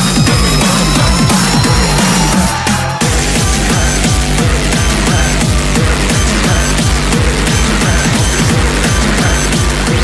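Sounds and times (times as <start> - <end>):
music with deep thumping beat: 0.0 - 10.0.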